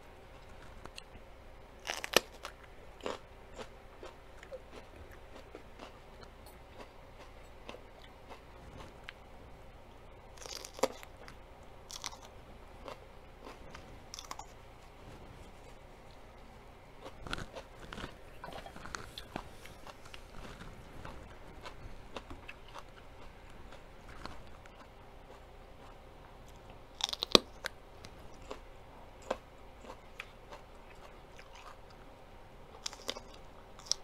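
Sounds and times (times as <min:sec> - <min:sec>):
crunching crisp chips: 0:01.8 - 0:09.2, 0:10.3 - 0:14.5, 0:17.0 - 0:32.0, 0:32.8 - 0:34.0.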